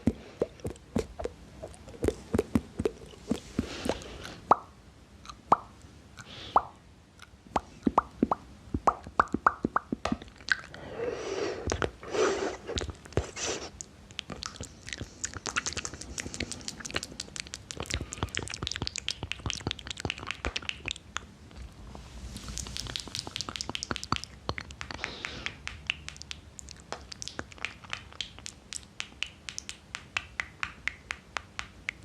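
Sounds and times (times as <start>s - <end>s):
wet mouth sounds: 0.0s - 10.9s, 11.5s - 21.7s, 22.4s - 32.0s.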